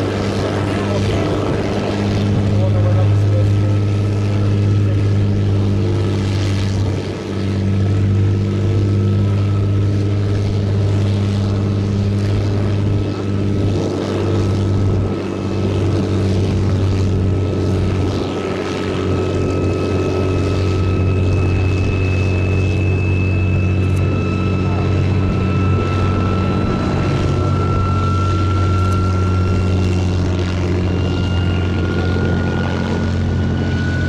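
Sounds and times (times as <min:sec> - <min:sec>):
high whine: 0:00.0 - 0:34.0
jet engine running: 0:00.0 - 0:34.0.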